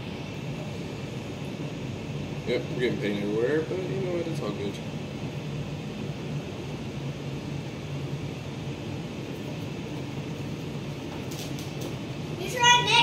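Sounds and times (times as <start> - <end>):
blower motor humming and rushing air: 0.0 - 13.0.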